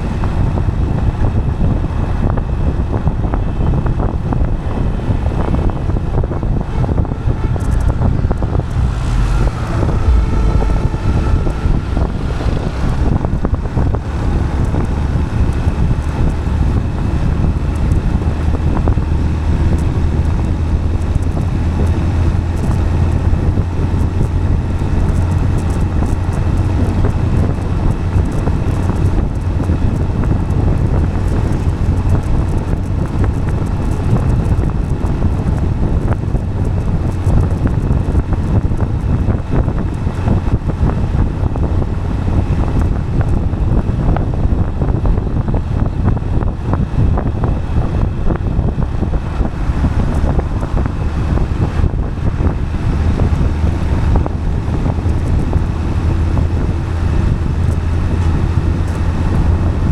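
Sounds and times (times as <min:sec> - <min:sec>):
tyres rolling on asphalt: 0:00.0 - 0:59.9
wind buffeting microphone: 0:00.0 - 0:59.9.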